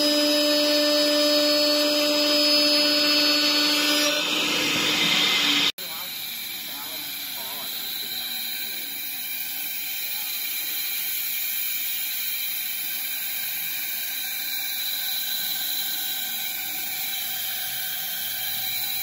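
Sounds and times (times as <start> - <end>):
wood router machine running: 0.0 - 19.0.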